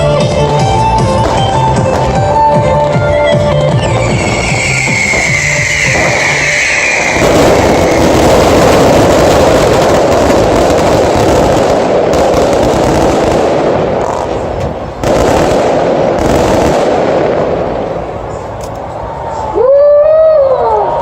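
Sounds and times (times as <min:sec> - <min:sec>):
fireworks bangs and crackle: 0:00.0 - 0:19.0.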